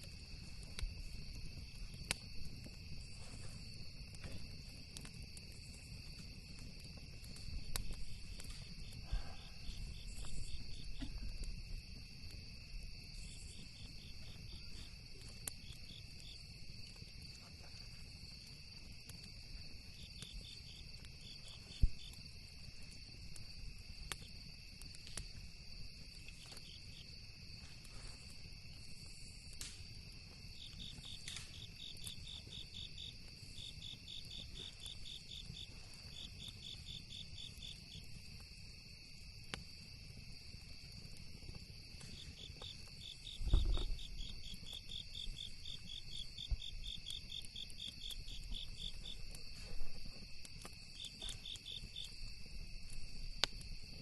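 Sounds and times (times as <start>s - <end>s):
campfire crackles: 0.0s - 54.0s
insects chirping: 0.0s - 54.0s.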